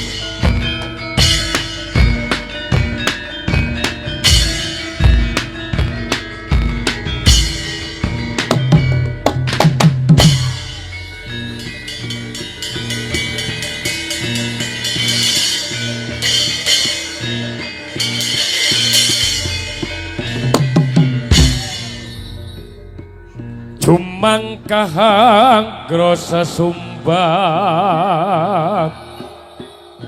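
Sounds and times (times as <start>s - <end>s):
hand drum strokes: 0.0s - 26.8s
ringing gongs and metallophones: 0.0s - 30.0s.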